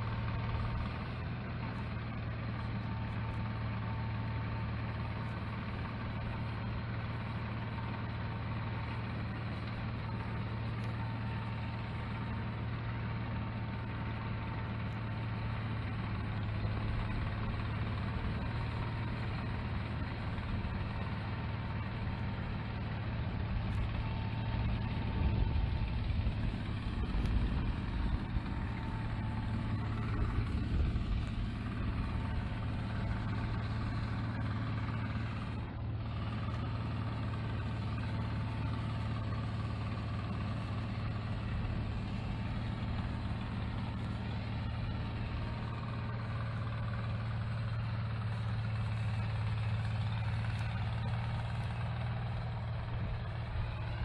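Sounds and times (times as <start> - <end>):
snowblower engine drone: 0.0 - 54.0.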